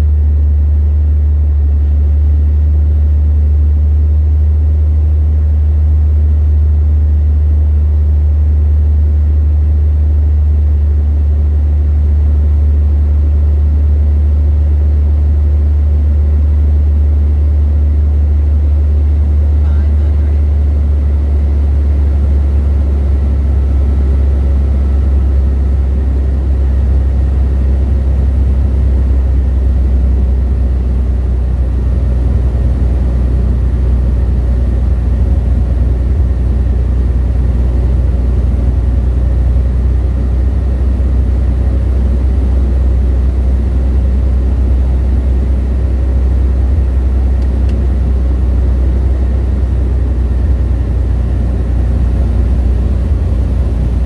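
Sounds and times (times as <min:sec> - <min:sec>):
light aircraft engine droning: 0:06.9 - 0:54.0.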